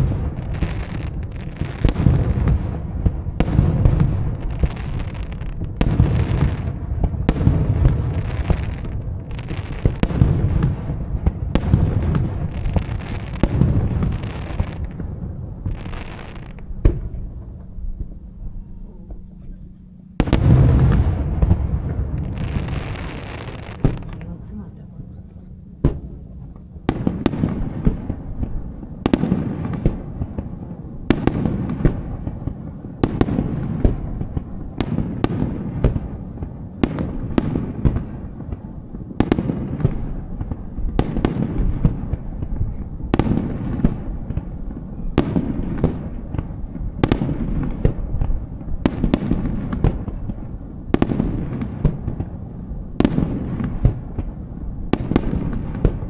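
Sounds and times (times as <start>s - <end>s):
fireworks bursting with bangs: 0.0s - 56.0s
low rumble and crackle: 0.0s - 56.0s.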